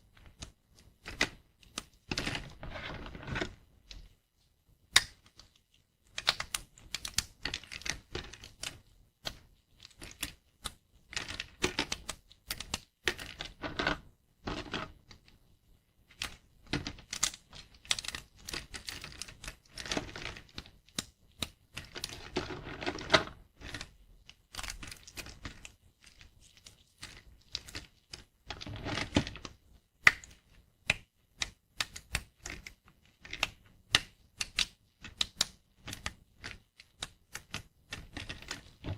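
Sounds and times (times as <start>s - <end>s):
soap plates cracking: 4.8s - 15.2s, 16.1s - 38.9s.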